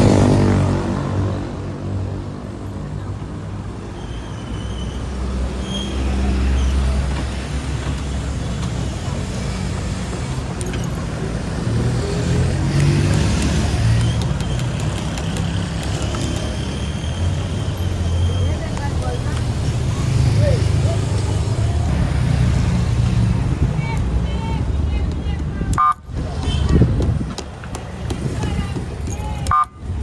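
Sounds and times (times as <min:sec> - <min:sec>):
other vehicle engines: 0:00.0 - 0:30.0
road noise: 0:00.0 - 0:30.0.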